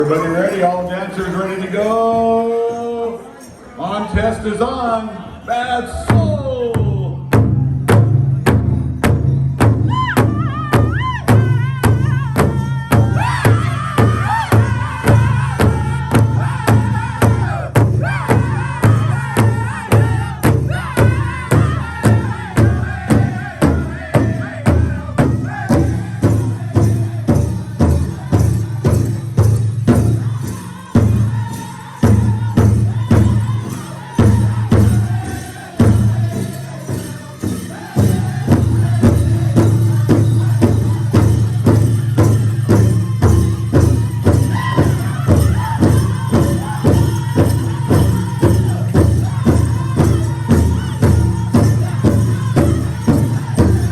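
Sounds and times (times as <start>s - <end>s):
large drum steady beat: 6.1s - 53.9s
high voices singing: 10.1s - 53.9s.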